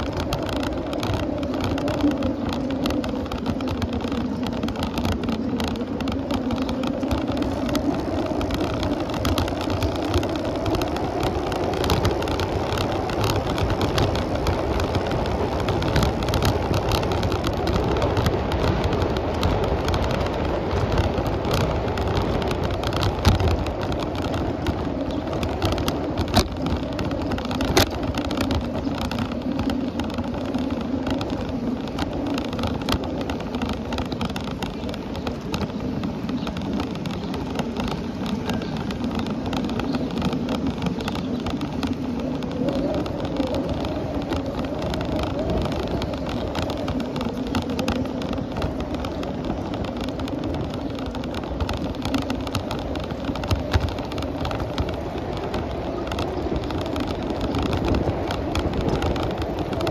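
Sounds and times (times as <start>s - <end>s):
bicycle tyres rolling on road: 0.0s - 59.9s
wind on microphone: 0.0s - 59.9s.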